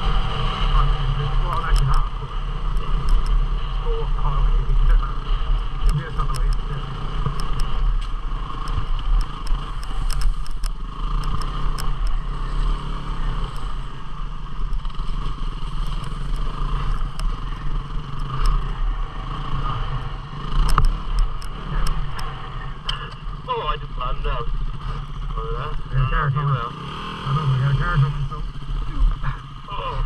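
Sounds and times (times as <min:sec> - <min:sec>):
motorcycle engine running: 0:00.0 - 0:30.0
sharp clicks and clatter: 0:00.6 - 0:30.0.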